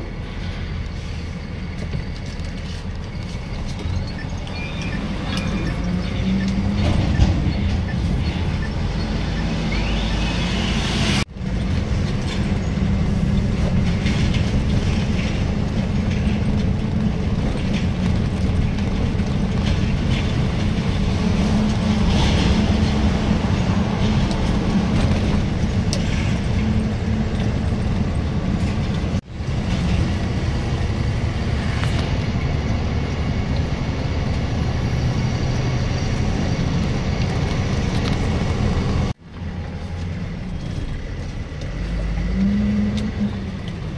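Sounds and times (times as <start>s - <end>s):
diesel engine drone: 0.0s - 43.9s
road noise: 0.0s - 43.9s.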